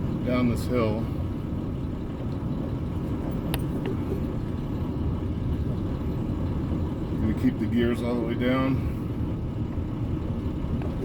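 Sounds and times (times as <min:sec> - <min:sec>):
truck engine running low: 0:00.0 - 0:11.0.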